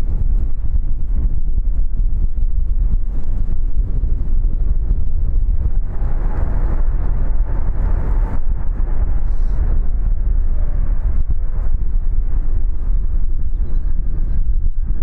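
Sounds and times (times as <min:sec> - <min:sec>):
jet airliner engine: 0:00.0 - 0:15.0
wind buffeting microphone: 0:00.0 - 0:15.0.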